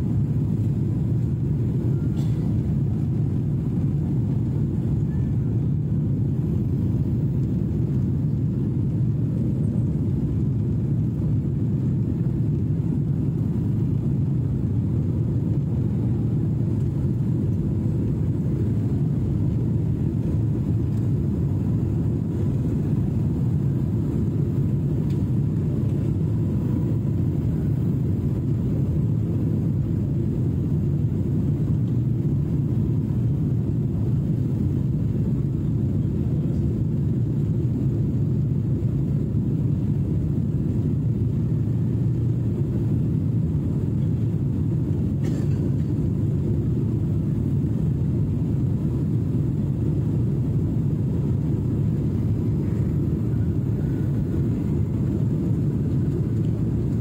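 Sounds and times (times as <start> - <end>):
jet engines rumbling in cabin: 0.0 - 57.0
rushing airflow: 0.0 - 57.0.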